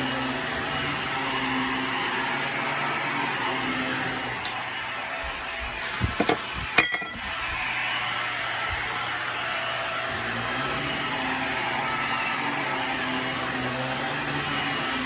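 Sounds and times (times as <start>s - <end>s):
vacuum cleaner running on carpet: 0.0s - 15.0s.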